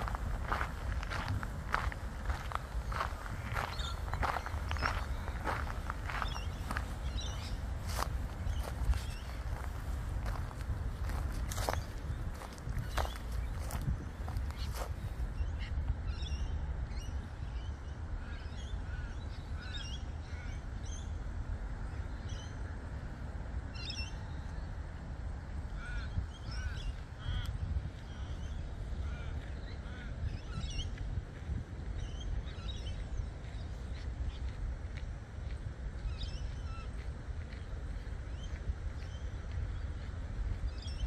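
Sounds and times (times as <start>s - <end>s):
birds chirping: 0.0s - 22.8s, 23.6s - 31.2s, 31.8s - 41.0s
steady low rumble: 0.0s - 41.0s.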